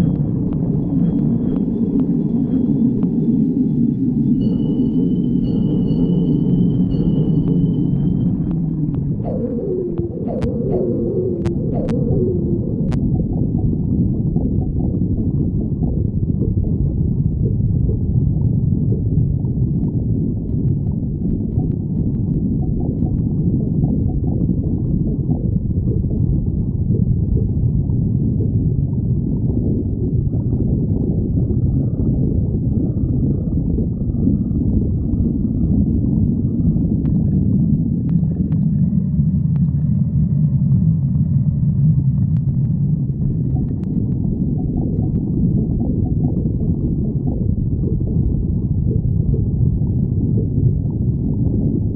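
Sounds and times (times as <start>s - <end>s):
stomach growling: 6.9s - 51.9s.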